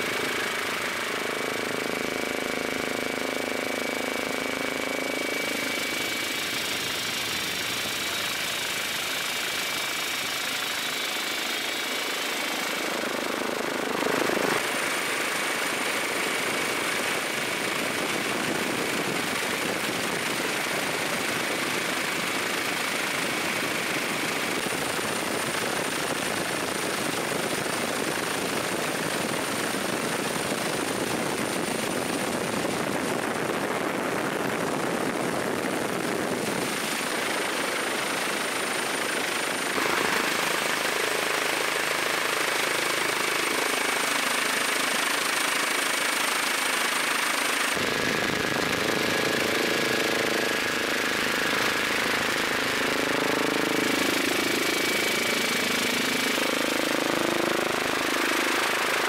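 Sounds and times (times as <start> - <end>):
helicopter rotor and engine rush: 0.0 - 59.0.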